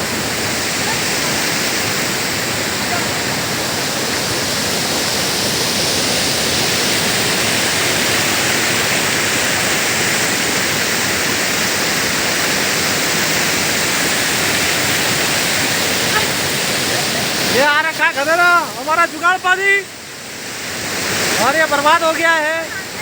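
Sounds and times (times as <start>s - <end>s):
mountain stream rushing: 0.0s - 23.0s.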